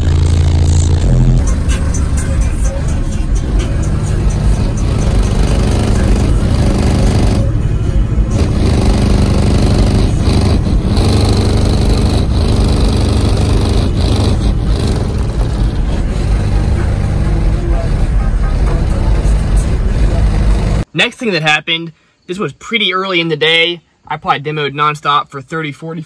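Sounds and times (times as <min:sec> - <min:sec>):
bass-heavy music: 0:00.0 - 0:21.4.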